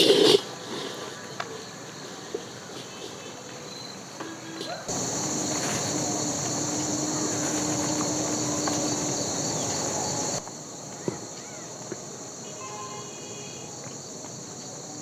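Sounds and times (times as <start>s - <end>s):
faint chirps: 0.0s - 15.0s
insects buzzing: 0.0s - 15.0s.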